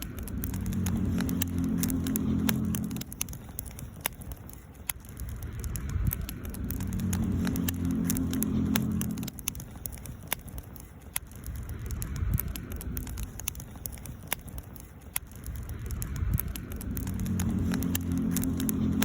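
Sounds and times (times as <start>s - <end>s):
campfire crackling and popping: 0.0s - 19.0s
low droning hum: 0.0s - 19.0s.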